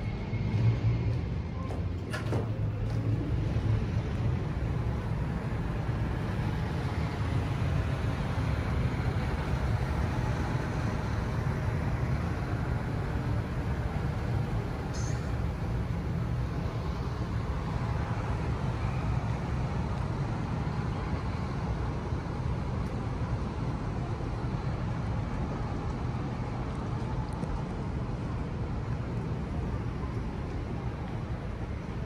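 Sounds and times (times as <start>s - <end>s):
low rumble of building noise: 0.0s - 32.0s.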